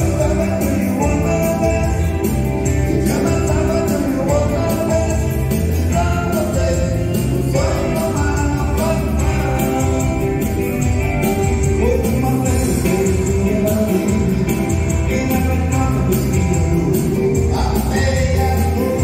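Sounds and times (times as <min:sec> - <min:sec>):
electronic keyboard dance music: 0:00.0 - 0:19.0.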